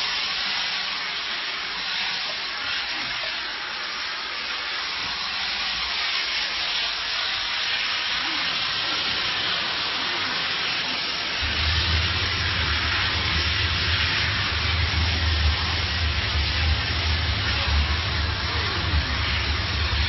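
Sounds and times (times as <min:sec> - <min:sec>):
steam cleaner hissing: 0:00.0 - 0:20.0.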